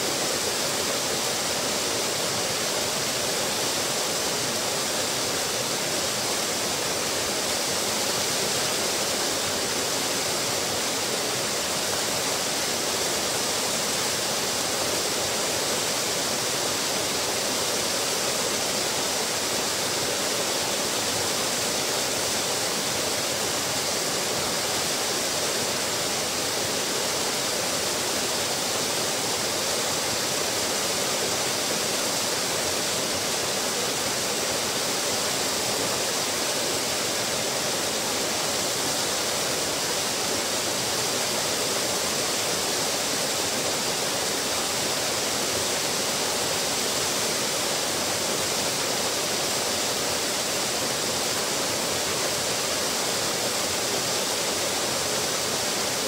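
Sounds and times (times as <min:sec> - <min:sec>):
waterfall splashing into pool: 0:00.0 - 0:56.0.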